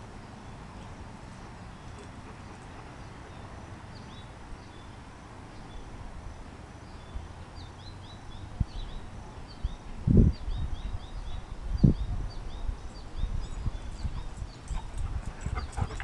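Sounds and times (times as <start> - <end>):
small birds chirping: 0.3 - 6.0, 6.8 - 16.0.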